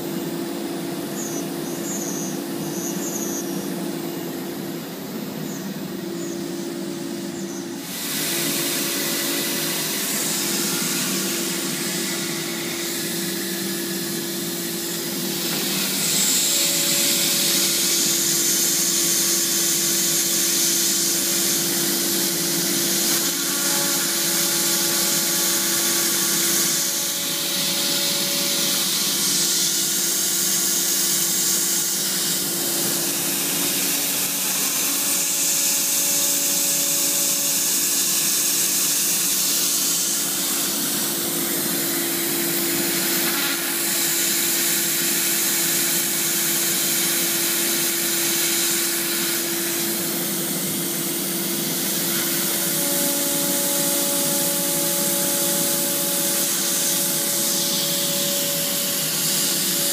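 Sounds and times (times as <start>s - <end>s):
router spindle cutting plastic: 6.8s - 59.9s.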